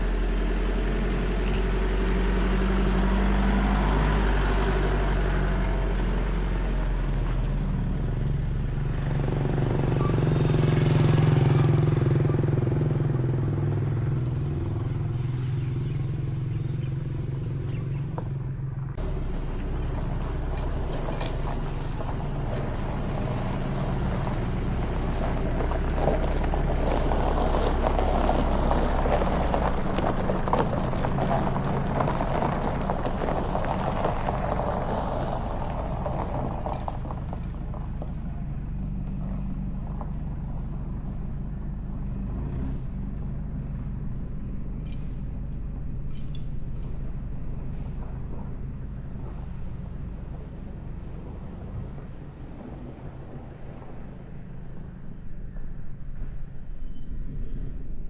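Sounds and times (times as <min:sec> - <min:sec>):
car engine hum: 0:00.0 - 0:58.0
road noise: 0:00.0 - 0:58.0.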